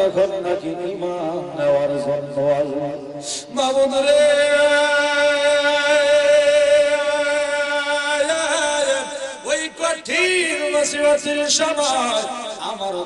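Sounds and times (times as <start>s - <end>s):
man chanting through microphones: 0.0s - 13.0s.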